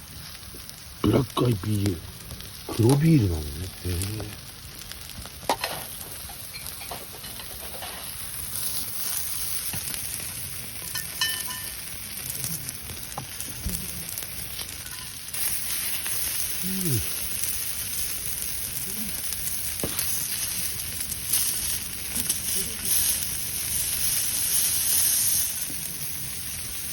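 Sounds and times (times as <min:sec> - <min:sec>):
food sizzling on a griddle: 0:00.0 - 0:26.9.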